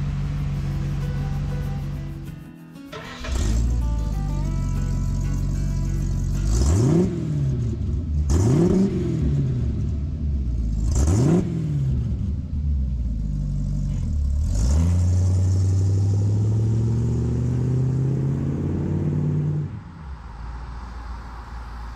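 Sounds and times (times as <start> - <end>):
engine idling and revving: 0.0 - 21.9
truck accelerating: 0.0 - 21.9.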